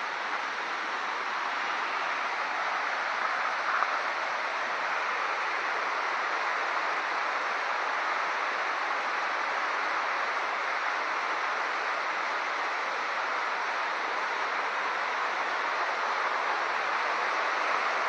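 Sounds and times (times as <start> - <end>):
river water rushing over rapids: 0.0 - 18.0.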